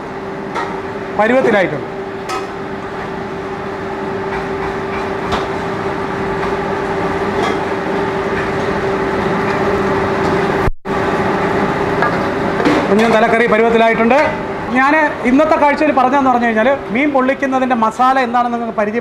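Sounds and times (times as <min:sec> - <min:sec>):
kitchen equipment humming: 0:00.0 - 0:19.0.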